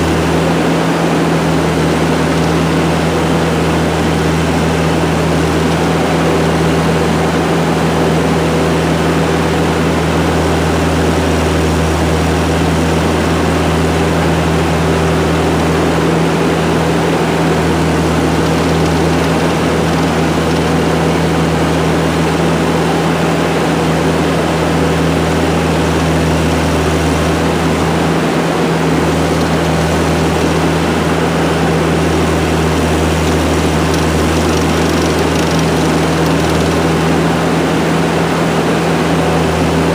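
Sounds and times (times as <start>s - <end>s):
loader engine droning: 0.0s - 39.9s.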